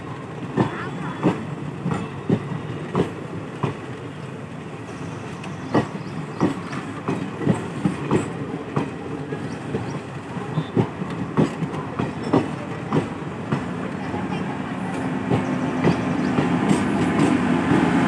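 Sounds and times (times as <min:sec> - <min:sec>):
train running rumble: 0:00.0 - 0:18.0
train wheels clicking over rail joints: 0:00.4 - 0:18.0.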